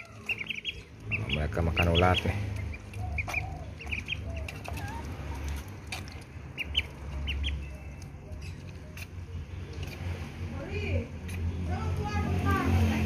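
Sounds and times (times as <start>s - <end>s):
ducklings peeping: 0.0s - 12.4s.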